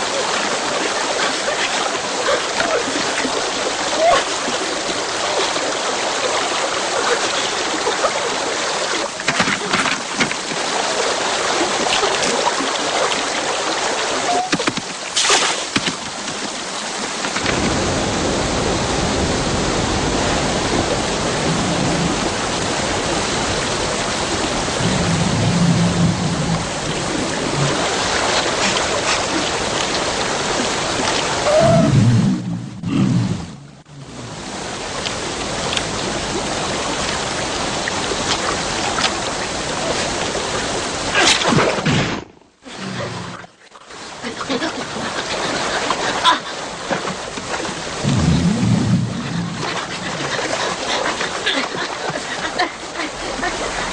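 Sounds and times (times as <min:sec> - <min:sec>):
stream rushing over stones: 0:00.0 - 0:32.2, 0:33.8 - 0:53.9.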